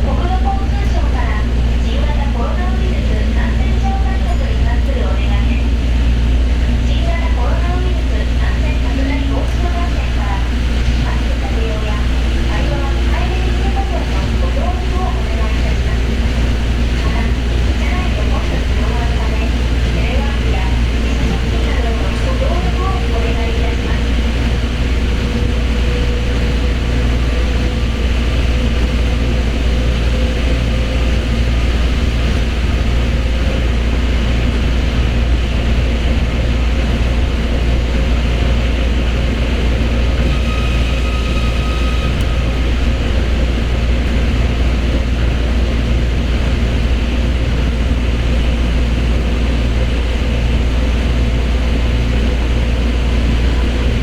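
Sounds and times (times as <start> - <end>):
train tyres rumbling on guideway: 0.0 - 54.0.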